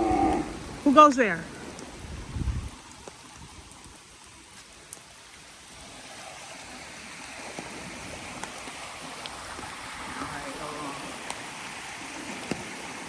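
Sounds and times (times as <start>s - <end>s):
creek water rushing: 0.0s - 13.0s
steady rain falling: 0.0s - 13.0s.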